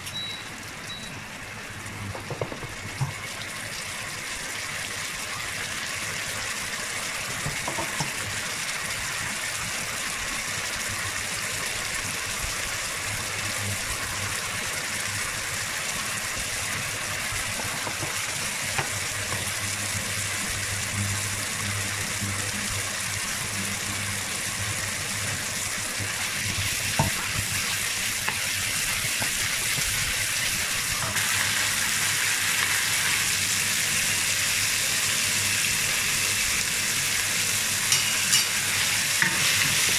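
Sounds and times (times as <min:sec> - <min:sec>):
chicken sizzling in a wok: 0:00.0 - 0:39.9.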